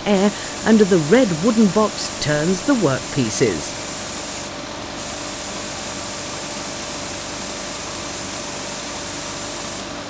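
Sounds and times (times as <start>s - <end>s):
faint hum of air equipment: 0.0s - 10.0s
steady hiss of compressed air: 0.2s - 10.0s.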